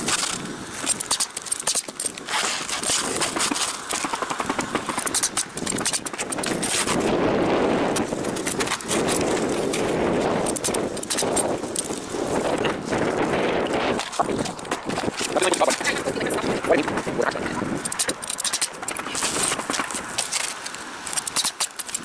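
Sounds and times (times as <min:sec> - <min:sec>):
shingles rustling and scraping: 0:00.0 - 0:22.0
steady rushing noise: 0:00.0 - 0:22.0.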